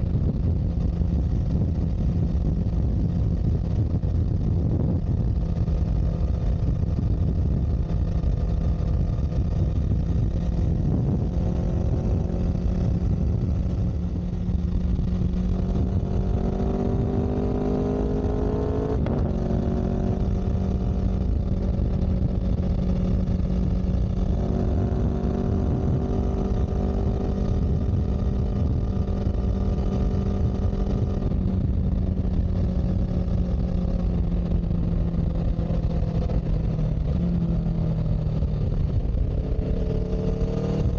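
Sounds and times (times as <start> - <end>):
heavy low rumble: 0.0 - 40.9
vehicle engine running: 0.0 - 40.9.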